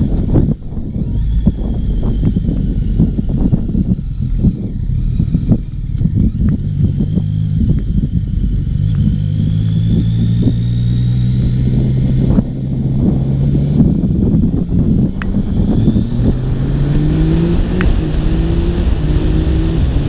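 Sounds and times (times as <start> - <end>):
motorcycle engine: 0.0 - 20.0
wind buffeting: 0.0 - 20.0.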